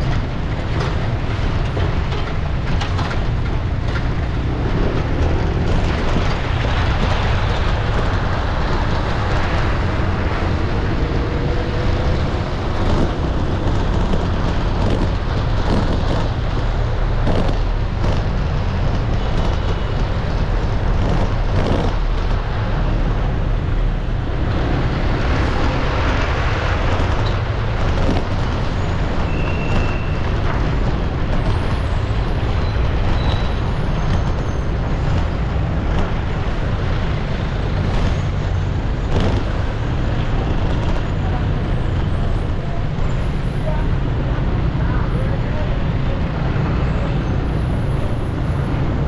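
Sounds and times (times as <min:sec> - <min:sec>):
road traffic din: 0:00.0 - 0:49.0.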